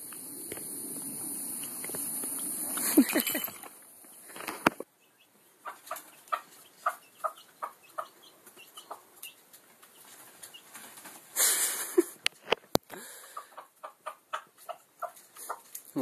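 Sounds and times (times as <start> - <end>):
chicken clucking: 1.4 - 12.2, 13.2 - 15.9.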